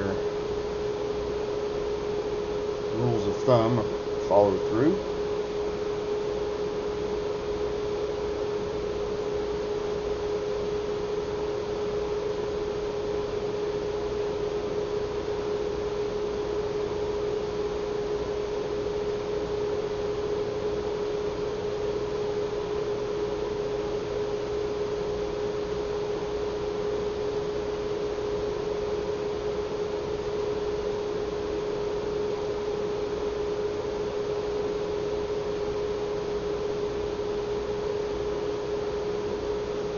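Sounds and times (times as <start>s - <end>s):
steady mid-pitched hum: 0.0s - 39.9s.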